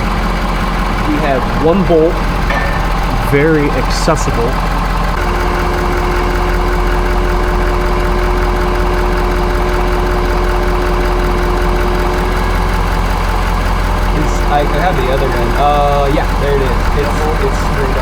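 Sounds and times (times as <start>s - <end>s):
steady whine: 0.0s - 18.0s
truck engine idling: 0.0s - 18.0s.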